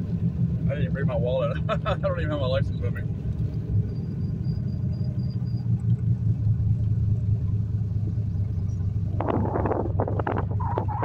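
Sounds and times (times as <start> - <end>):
car engine drone from inside cabin: 0.0 - 11.0.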